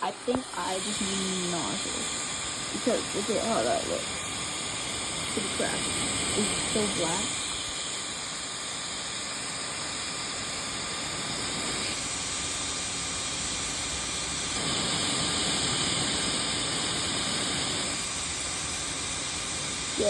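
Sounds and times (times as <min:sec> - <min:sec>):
machine whir and hiss: 0:00.0 - 0:20.0.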